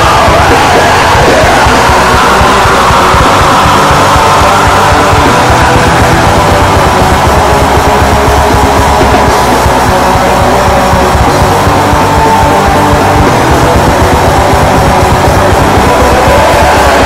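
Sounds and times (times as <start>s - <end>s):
distorted guitars: 0.0s - 17.0s
fast dense drumming: 0.0s - 17.0s.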